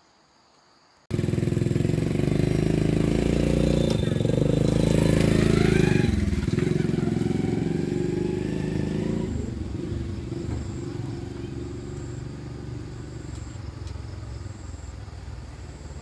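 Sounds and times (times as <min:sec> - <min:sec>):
small motorbike engine idling: 0:01.1 - 0:16.0.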